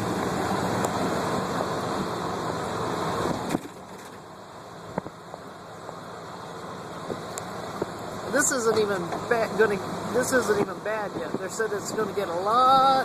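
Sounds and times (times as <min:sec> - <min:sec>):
road and wind noise in car: 0:00.0 - 0:13.0.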